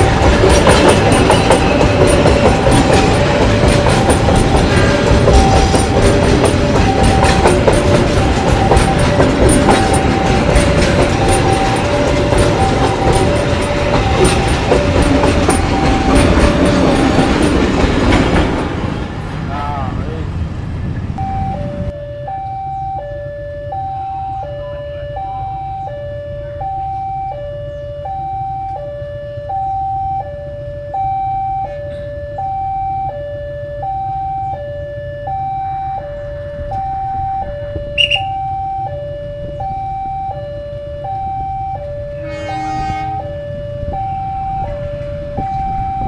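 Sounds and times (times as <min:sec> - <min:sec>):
level crossing two-tone alarm: 0:00.0 - 0:17.9, 0:21.2 - 0:46.0.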